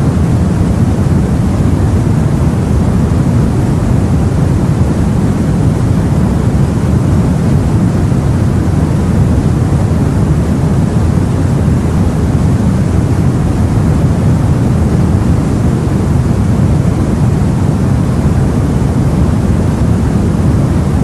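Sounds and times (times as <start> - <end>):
low rumble of sea: 0.0 - 21.0.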